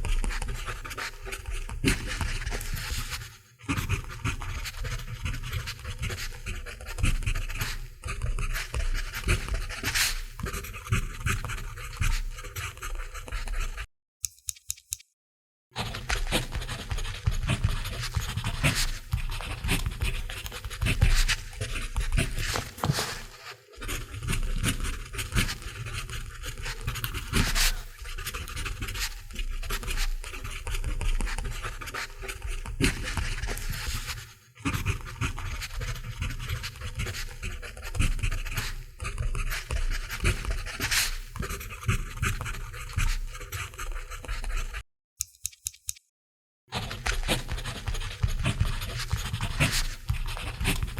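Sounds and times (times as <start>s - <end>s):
pencil writing on paper: 0.0s - 13.9s, 15.8s - 44.8s, 46.8s - 50.9s.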